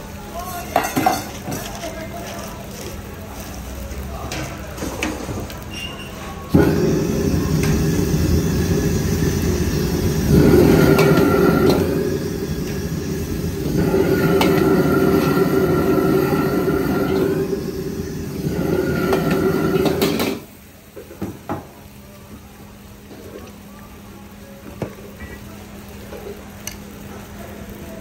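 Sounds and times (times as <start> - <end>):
gas wok burner roaring: 0.0 - 28.0.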